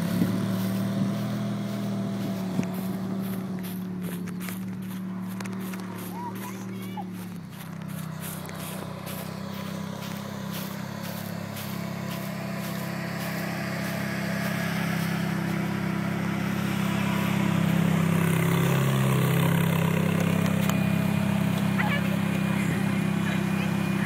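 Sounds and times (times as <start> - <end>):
sports car engine driving slowly: 0.0 - 24.0.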